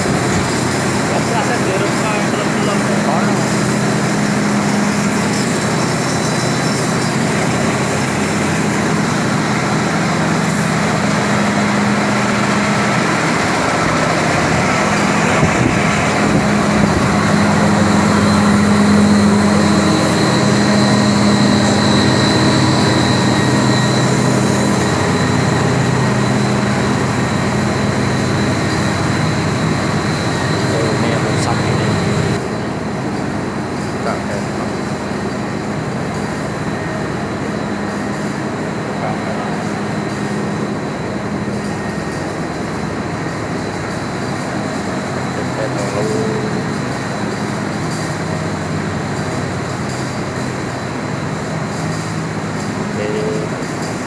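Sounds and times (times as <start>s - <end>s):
machine humming with high whine: 0.0s - 54.0s.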